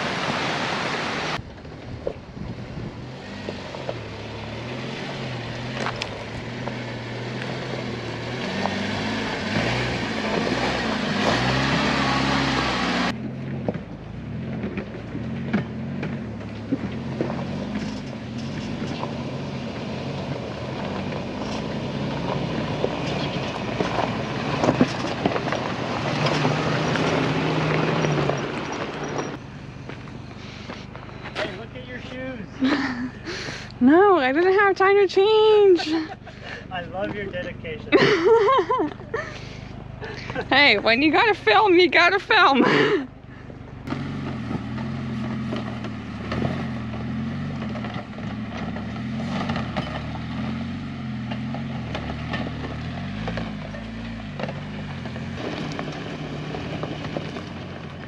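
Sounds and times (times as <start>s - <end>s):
off-road engines at low revs: 0.0s - 58.0s
tyres crunching on gravel and rock: 1.4s - 34.2s, 35.4s - 58.0s.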